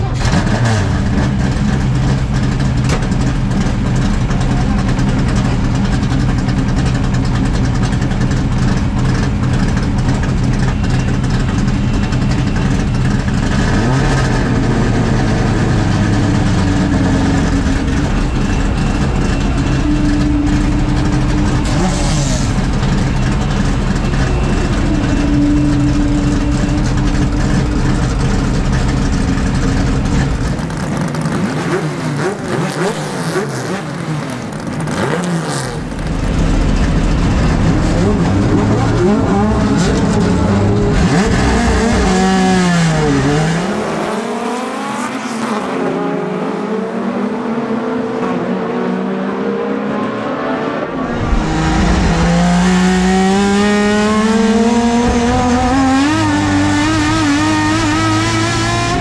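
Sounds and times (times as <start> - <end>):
race car engine running: 0.0 - 48.7, 50.8 - 59.0
race engines revving: 0.0 - 59.0.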